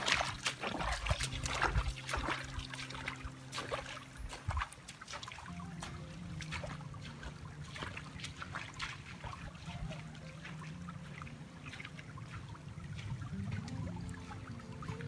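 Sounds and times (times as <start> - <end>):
soft sustained music tones: 0.0 - 15.0
stream trickling and splashing: 0.0 - 15.0.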